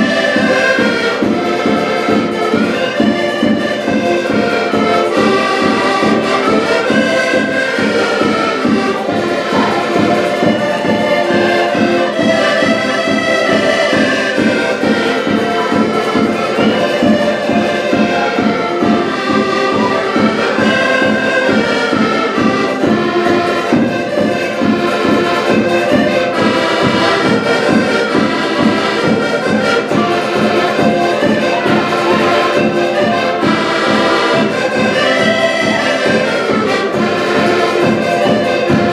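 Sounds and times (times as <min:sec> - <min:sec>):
accordions playing dance tune: 0:00.0 - 0:38.9.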